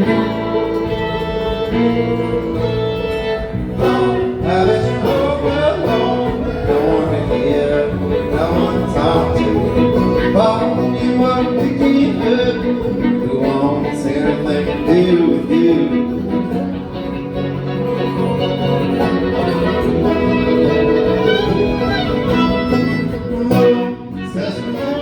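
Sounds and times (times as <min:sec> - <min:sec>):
acoustic guitar: 0:00.0 - 0:25.0
bluegrass music: 0:00.0 - 0:25.0
fiddle: 0:00.0 - 0:25.0.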